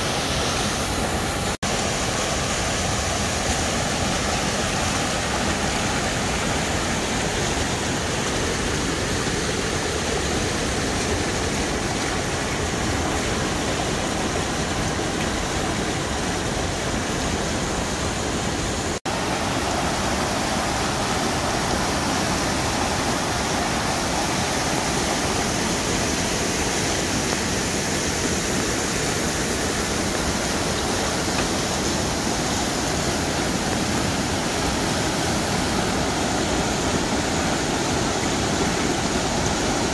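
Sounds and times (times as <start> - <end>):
whitewater rushing over rocks: 0.0 - 39.9.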